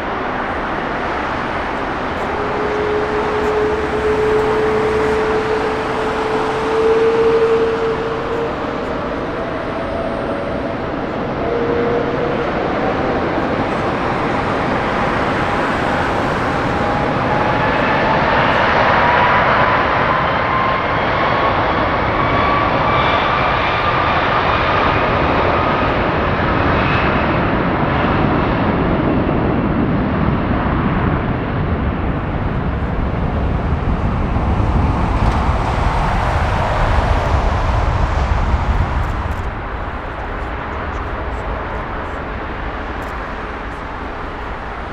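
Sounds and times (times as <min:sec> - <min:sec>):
jet engines roaring: 0:00.0 - 0:44.9
rising engine whine: 0:00.0 - 0:44.9.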